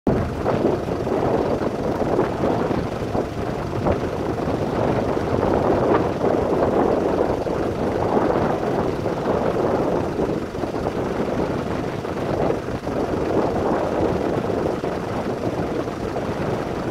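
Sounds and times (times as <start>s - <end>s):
wind rushing: 0.1s - 16.9s.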